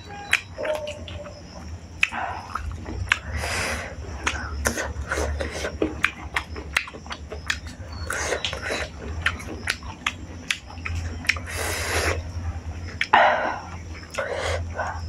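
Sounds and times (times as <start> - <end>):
food crunching: 0.0 - 15.0
person chewing: 0.3 - 15.0.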